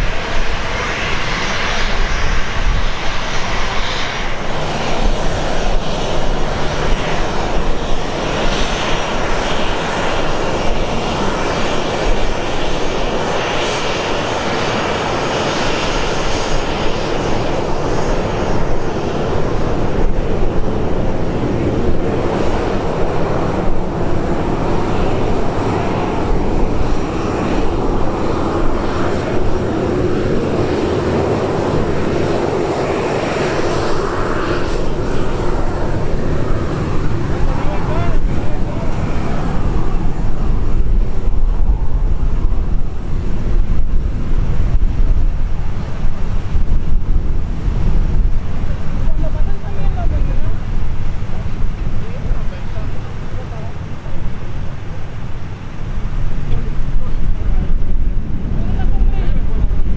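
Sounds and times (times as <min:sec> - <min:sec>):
jet engines taxiing: 0:00.0 - 0:59.9.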